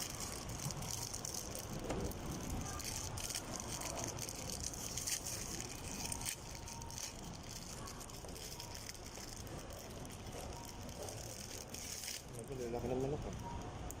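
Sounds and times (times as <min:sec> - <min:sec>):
restaurant background noise: 0:00.0 - 0:14.0
utensils clicking and crackling: 0:00.0 - 0:14.0.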